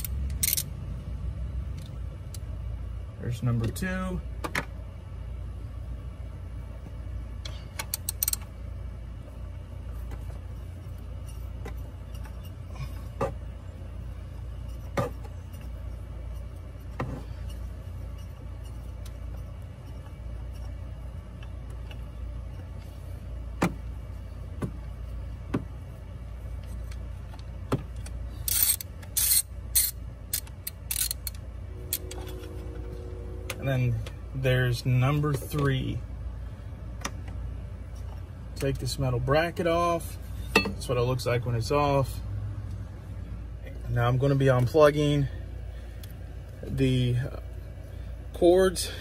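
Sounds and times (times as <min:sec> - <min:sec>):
low background rumble: 0:00.0 - 0:48.8.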